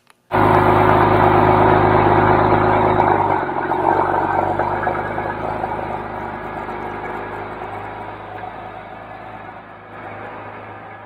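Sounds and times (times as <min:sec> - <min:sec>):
car engine idling: 0:00.3 - 0:11.0.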